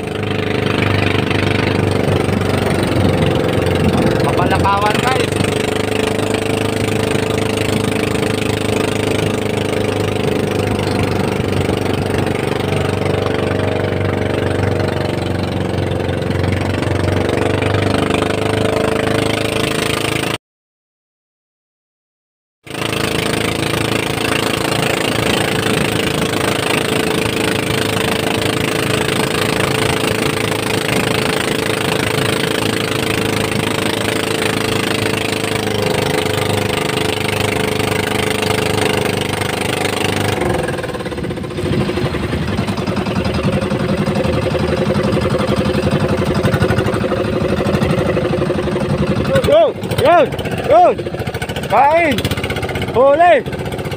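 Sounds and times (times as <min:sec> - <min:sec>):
boat engine running: 0:00.0 - 0:20.4, 0:22.6 - 0:53.9.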